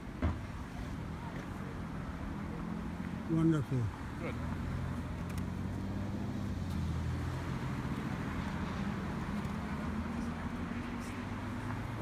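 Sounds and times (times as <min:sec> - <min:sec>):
car engines humming: 0:00.0 - 0:12.0.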